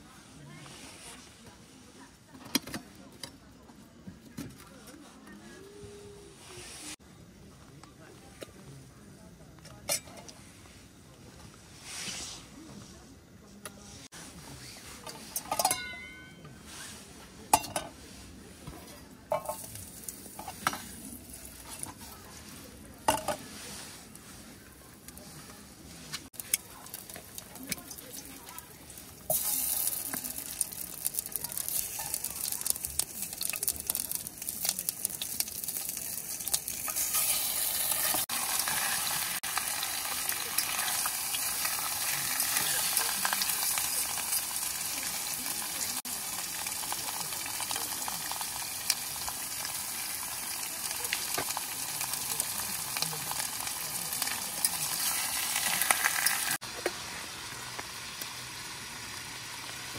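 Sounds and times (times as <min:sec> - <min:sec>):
crackling sizzle-like hiss: 0:00.0 - 0:15.8, 0:16.6 - 0:59.9.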